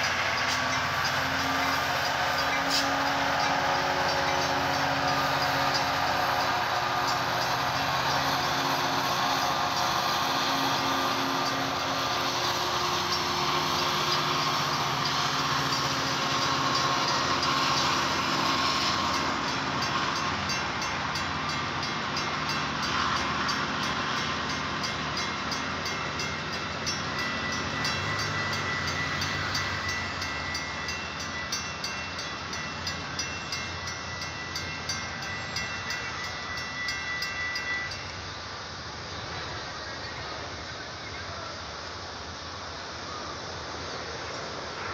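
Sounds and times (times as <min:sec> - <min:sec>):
crossing bells ringing: 0:00.0 - 0:38.8
train rumbling past: 0:00.0 - 0:44.9.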